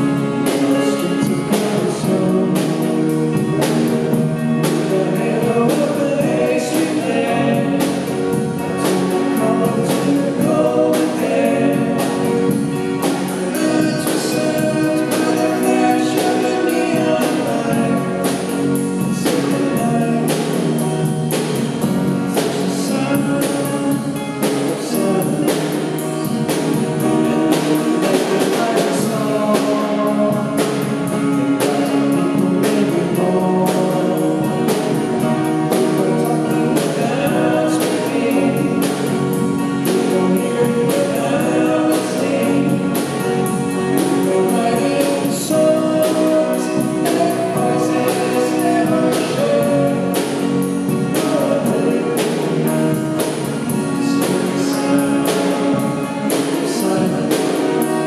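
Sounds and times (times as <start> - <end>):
acoustic guitars: 0.0 - 58.0
drum kit beat: 0.0 - 58.0
electric bass: 0.0 - 58.0
keyboard: 0.0 - 58.0
man singing into a microphone: 0.0 - 58.0.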